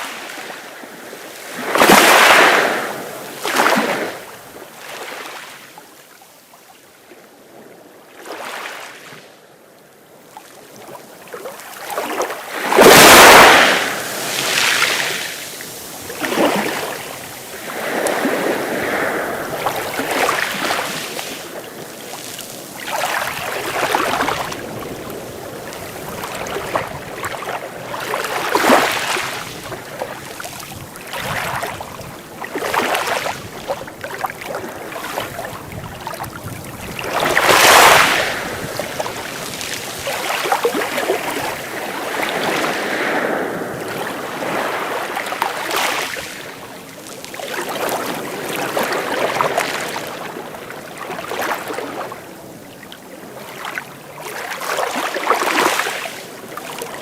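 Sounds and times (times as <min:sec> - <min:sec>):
sea waves breaking on shore: 0:00.0 - 0:09.2, 0:10.1 - 0:57.0.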